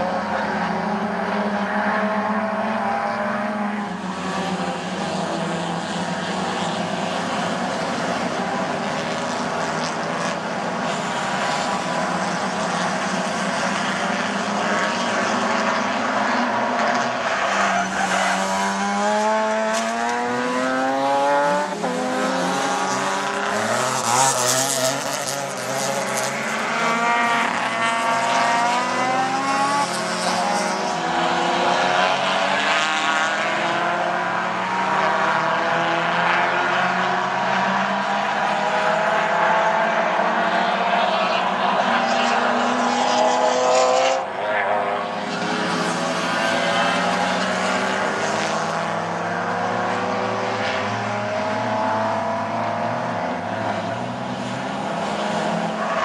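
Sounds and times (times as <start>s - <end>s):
race car engines accelerating: 0.0s - 56.0s.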